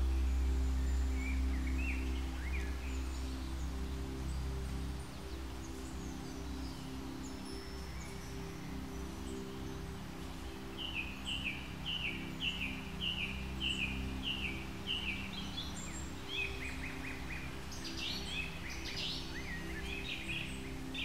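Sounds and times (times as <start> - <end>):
bird singing: 0.0 - 21.0
low steady hum: 0.0 - 21.0.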